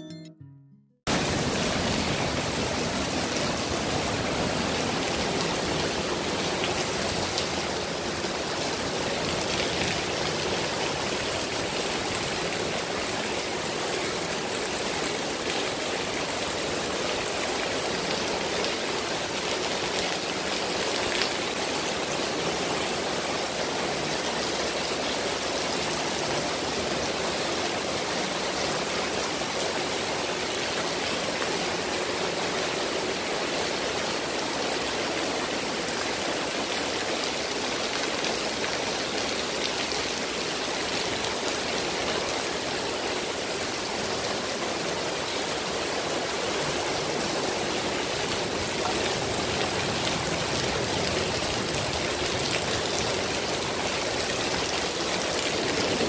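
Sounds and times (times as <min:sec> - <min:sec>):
heavy rain on paving and plants: 0:01.1 - 0:56.0.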